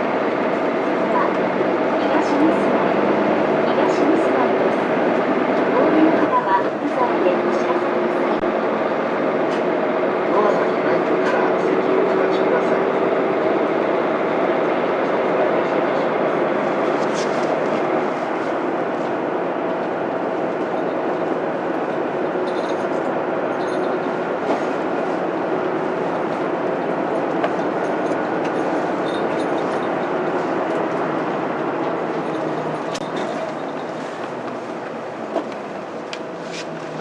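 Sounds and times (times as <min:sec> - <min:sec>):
diesel bus engine running: 0:00.0 - 0:37.0
road and cabin noise: 0:00.0 - 0:37.0.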